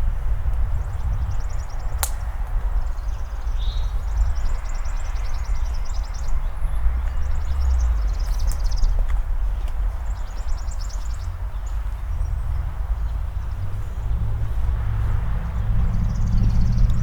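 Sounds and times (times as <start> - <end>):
steady low rumble: 0.0 - 17.0
songbirds trilling: 0.7 - 17.0.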